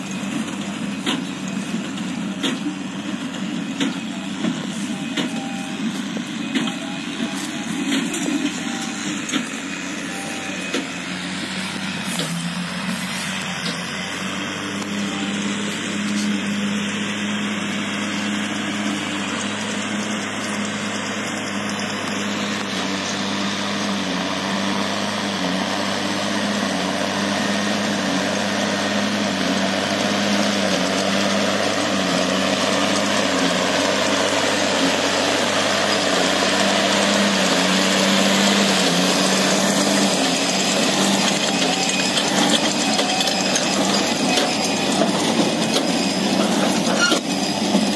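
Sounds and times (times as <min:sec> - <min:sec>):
baler machinery working: 0:00.0 - 0:47.9
tractor diesel engine running: 0:00.0 - 0:47.9.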